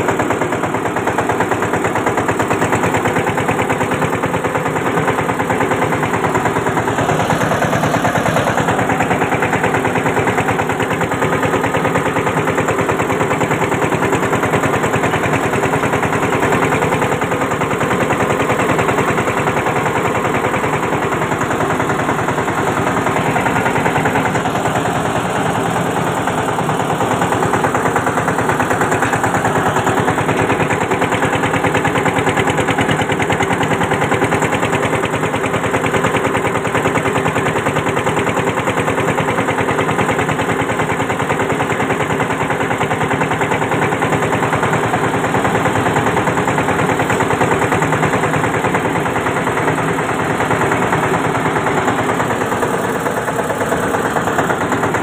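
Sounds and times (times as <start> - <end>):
tractor diesel engine chugging: 0.0 - 55.0.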